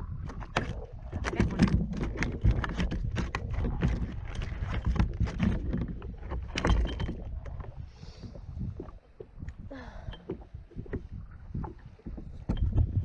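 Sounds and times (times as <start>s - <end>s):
knocks and thumps on kayak: 0.1s - 9.6s, 10.2s - 13.0s.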